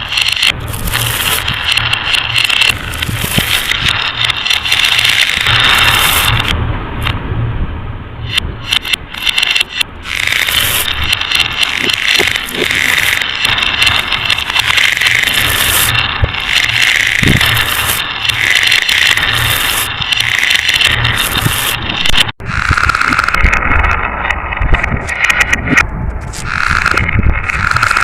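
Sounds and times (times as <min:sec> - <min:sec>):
marbles rolling on a track: 0:00.0 - 0:06.5, 0:08.7 - 0:28.0.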